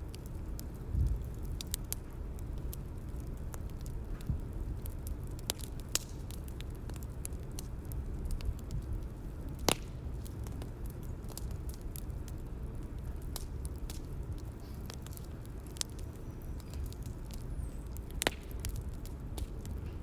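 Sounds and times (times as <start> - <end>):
bonfire rumble: 0.0 - 20.0
wood crackling and popping: 0.0 - 20.0.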